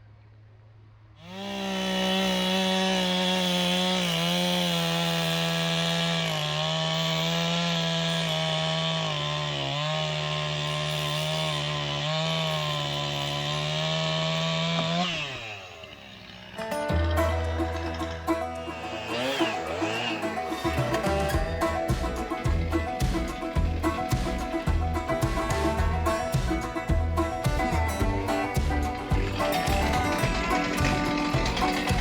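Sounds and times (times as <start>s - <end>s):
chainsaw cutting wood: 1.2s - 32.0s.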